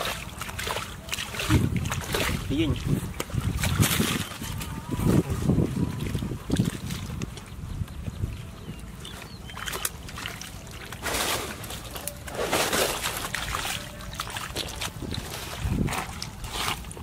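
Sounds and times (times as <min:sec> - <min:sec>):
squelching in muddy water: 0:00.0 - 0:17.0
water splashes: 0:00.0 - 0:17.0.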